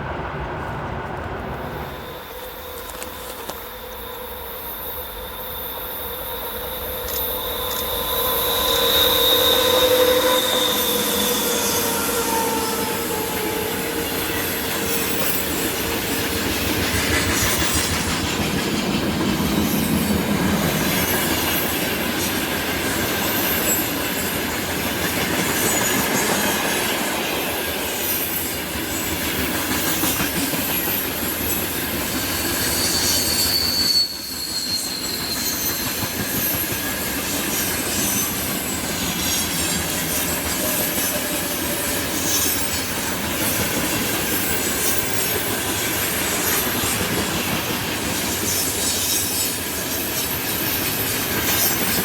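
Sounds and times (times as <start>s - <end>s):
freight train rumbling and rattling: 0.0s - 52.0s
train wheels squealing: 1.5s - 52.0s.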